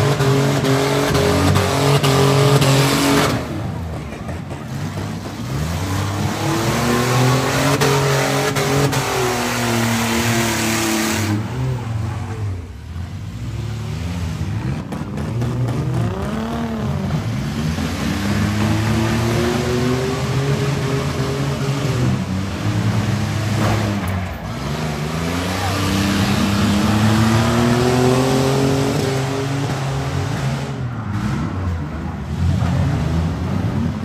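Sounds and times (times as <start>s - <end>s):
van engines revving: 0.0s - 34.0s.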